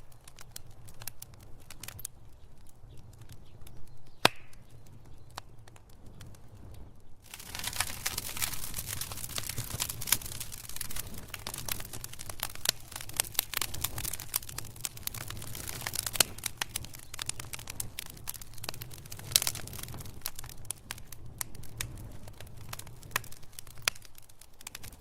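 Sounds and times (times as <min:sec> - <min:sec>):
low rumble of burning: 0:00.0 - 0:25.0
wood fire crackling in fireplace: 0:00.0 - 0:25.0.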